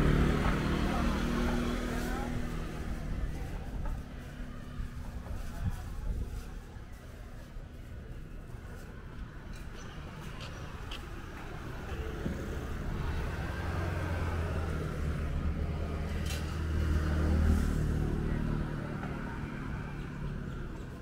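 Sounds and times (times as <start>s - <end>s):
vehicle engine rumble passing: 0.0s - 6.7s, 7.6s - 21.0s.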